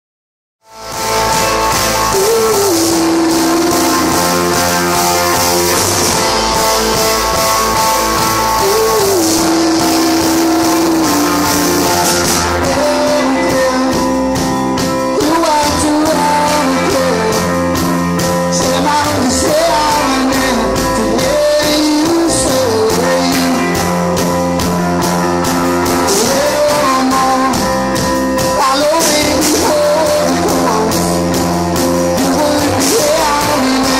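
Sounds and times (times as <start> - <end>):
bass guitar: 0.6 - 33.9
drum kit: 0.6 - 33.9
electric guitar: 0.6 - 33.9
stage piano: 0.6 - 33.9
man singing: 1.8 - 33.9.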